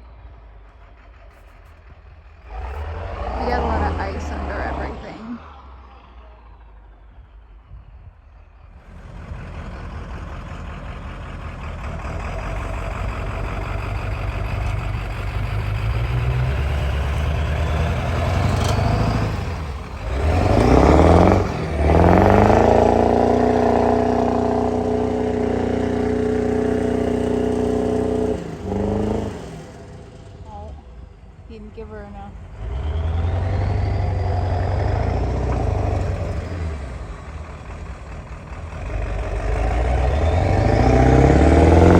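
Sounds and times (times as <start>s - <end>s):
truck engine revving under load: 0.0s - 41.9s.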